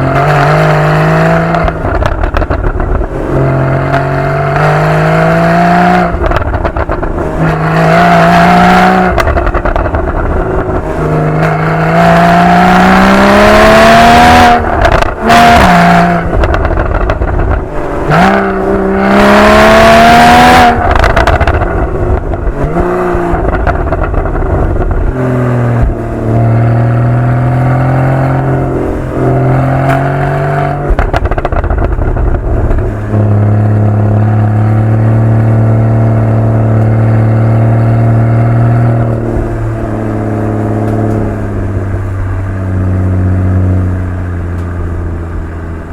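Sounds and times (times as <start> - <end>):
car engine accelerating hard: 0.0 - 45.9
exhaust popping and crackling: 0.0 - 45.9.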